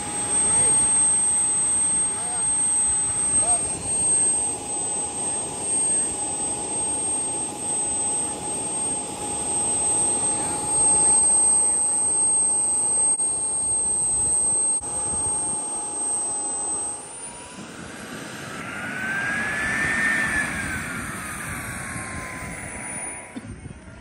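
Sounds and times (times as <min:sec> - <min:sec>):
model jet engine whining: 0:00.0 - 0:24.0.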